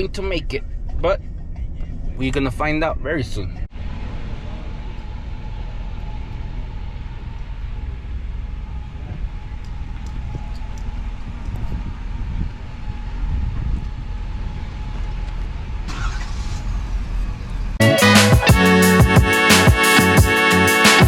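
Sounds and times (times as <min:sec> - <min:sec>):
pickup engine and road rumble: 0:00.0 - 0:21.0.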